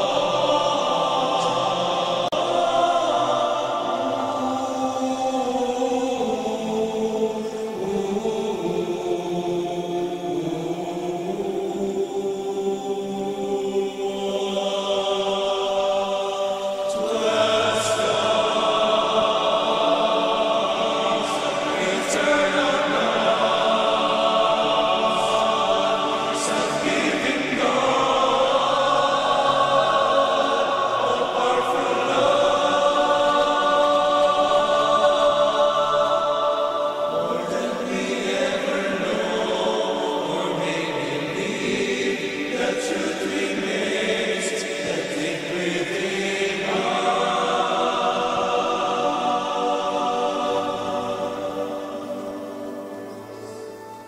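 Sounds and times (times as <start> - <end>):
men's choir singing a hymn: 0.0 - 54.0.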